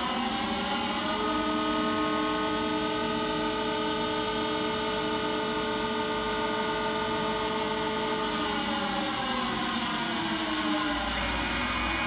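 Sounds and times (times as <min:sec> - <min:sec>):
lathe motors whining: 0:00.0 - 0:12.0.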